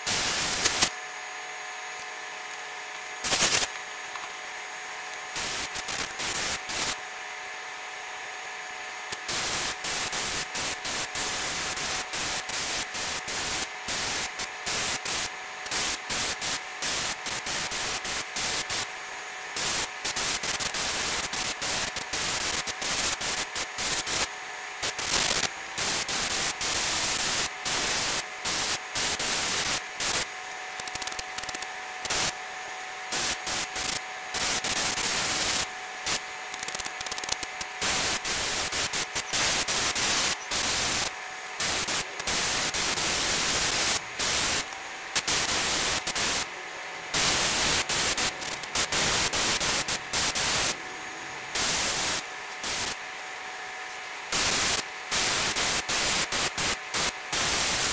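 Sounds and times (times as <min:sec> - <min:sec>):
airbrush hissing bursts: 0:00.0 - 0:00.9, 0:03.2 - 0:03.7, 0:05.3 - 0:07.0, 0:09.1 - 0:18.9, 0:19.5 - 0:32.4, 0:33.1 - 0:50.8, 0:51.5 - 0:53.0, 0:54.3 - 0:57.9
air blasts: 0:00.0 - 0:01.0, 0:03.2 - 0:03.8, 0:05.3 - 0:07.0, 0:09.1 - 0:18.9, 0:19.5 - 0:32.4, 0:33.1 - 0:53.0, 0:54.3 - 0:57.9.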